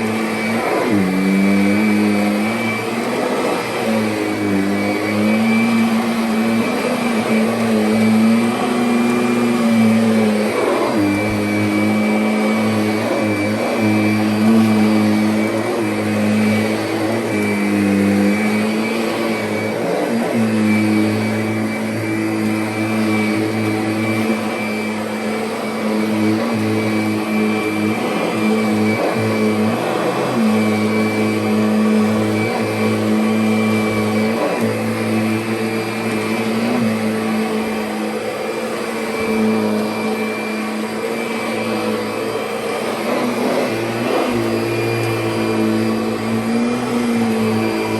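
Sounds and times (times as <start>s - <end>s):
vacuum cleaner on carpet: 0.0s - 47.9s.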